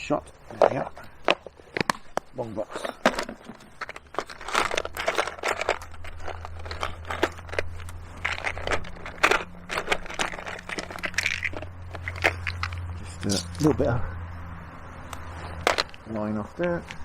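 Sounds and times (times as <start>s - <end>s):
fishing tackle clicks and rattles: 0.5s - 13.8s, 15.5s - 16.1s.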